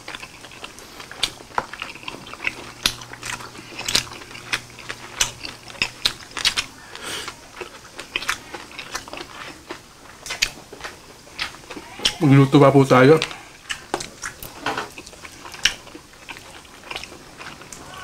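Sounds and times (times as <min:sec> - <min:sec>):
people chewing with wet smacks: 0:00.0 - 0:18.0.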